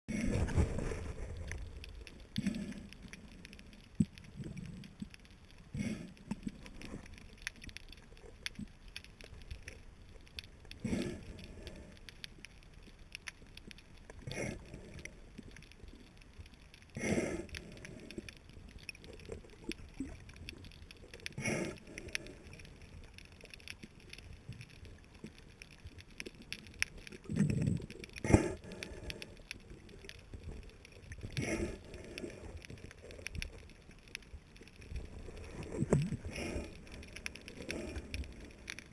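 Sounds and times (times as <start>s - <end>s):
faint continuous crackle: 0.0s - 38.9s
muffled underwater water surges: 0.1s - 38.9s.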